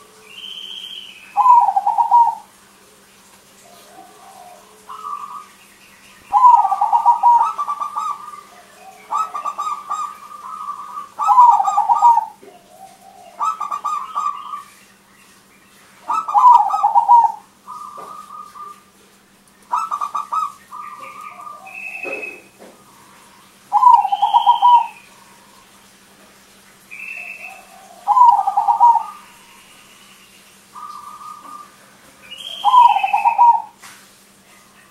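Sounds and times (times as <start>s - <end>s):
dove cooing: 0.0s - 5.6s, 6.3s - 14.7s, 16.0s - 19.0s, 19.7s - 25.8s, 26.9s - 29.8s, 30.7s - 33.8s.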